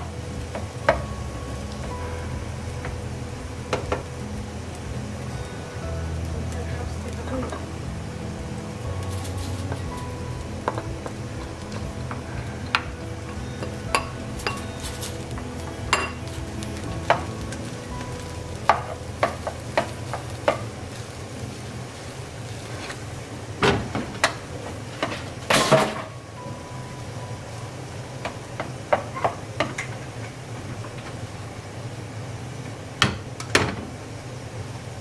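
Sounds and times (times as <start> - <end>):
low sizzle: 0.0 - 35.0.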